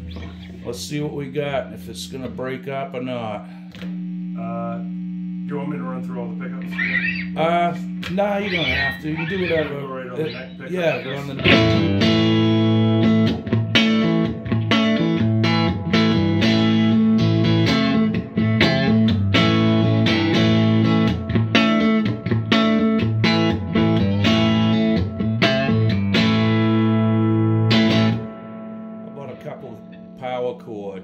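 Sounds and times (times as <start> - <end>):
electric guitar strummed chords: 6.1 - 31.0.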